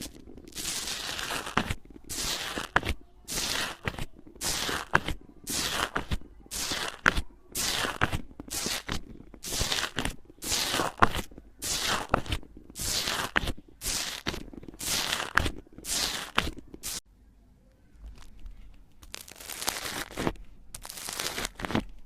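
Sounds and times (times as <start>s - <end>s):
slime squelching and popping: 0.0s - 17.0s, 18.1s - 22.0s.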